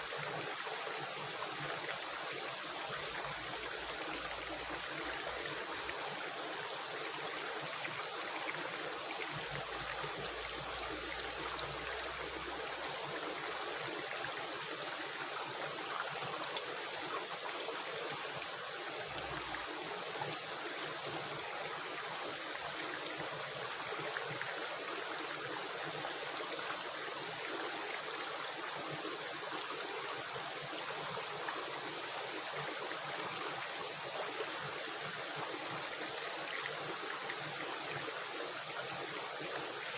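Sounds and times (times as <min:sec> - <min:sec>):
water rushing and gurgling: 0:00.0 - 0:39.9.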